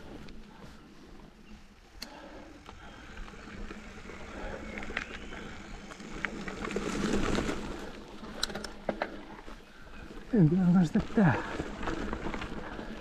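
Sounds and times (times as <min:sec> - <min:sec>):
bike ticks and rattles: 0:00.0 - 0:13.0
bike tyres crunching on gravel: 0:00.0 - 0:13.0.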